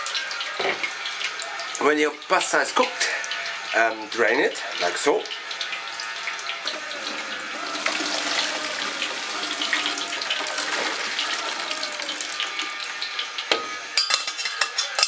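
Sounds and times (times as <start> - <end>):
water gushing into a metal sink: 0.5 - 13.4.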